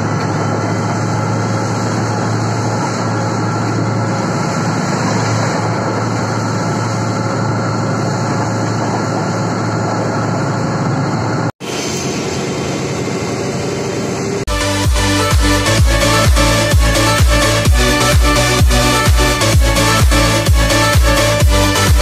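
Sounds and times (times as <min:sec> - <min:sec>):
locomotive engine drone: 0:00.0 - 0:22.0
train running on track: 0:00.0 - 0:22.0.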